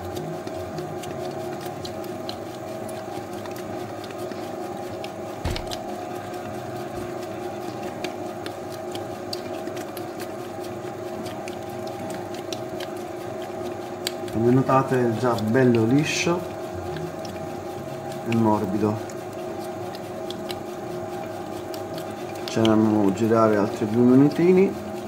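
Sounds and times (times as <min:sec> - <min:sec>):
dough mixer running: 0:00.0 - 0:25.0.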